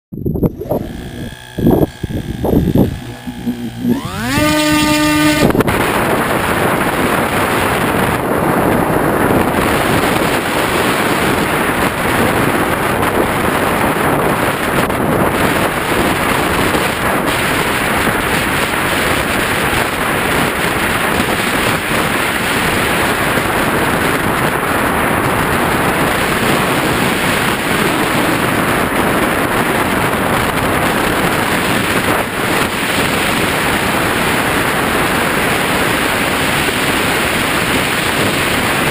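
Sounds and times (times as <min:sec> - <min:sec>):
wind rush: 0:00.1 - 0:38.9
propeller motor whine: 0:00.3 - 0:38.9.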